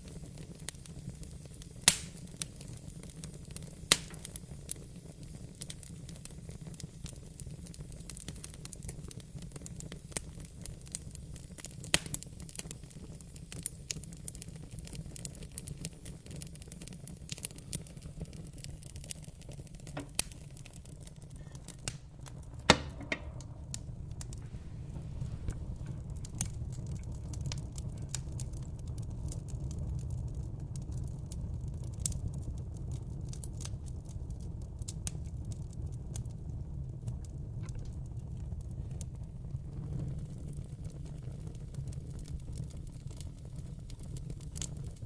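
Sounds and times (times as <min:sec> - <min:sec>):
low rumble of flame: 0:00.0 - 0:45.0
wood fire crackling: 0:00.0 - 0:45.0.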